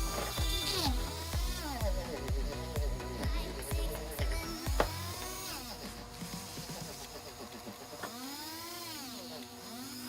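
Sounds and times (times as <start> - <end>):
rotary tool wire brush whining: 0.0 - 10.0.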